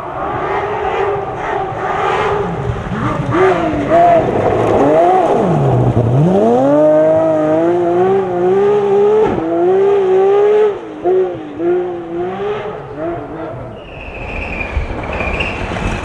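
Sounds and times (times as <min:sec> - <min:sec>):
rally car engine revving: 0:00.0 - 0:14.4.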